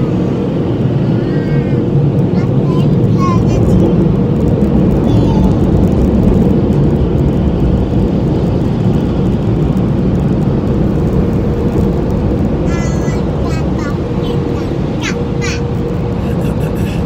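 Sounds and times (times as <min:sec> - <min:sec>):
car wash machinery rumbling: 0:00.0 - 0:17.0.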